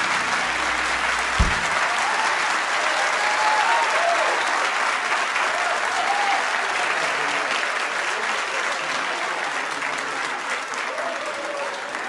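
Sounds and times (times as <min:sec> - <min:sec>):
audience applauding: 0:00.0 - 0:12.0
people cheering: 0:00.0 - 0:12.0.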